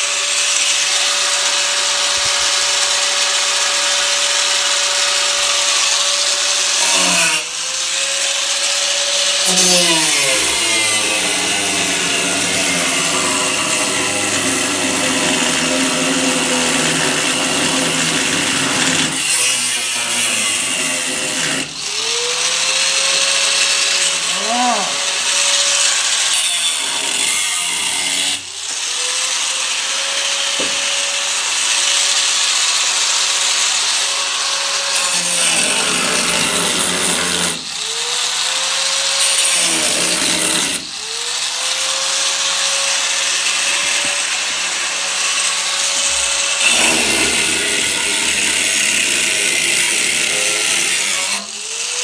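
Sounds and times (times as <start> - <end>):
power grinder grinding metal: 0.0 - 52.0.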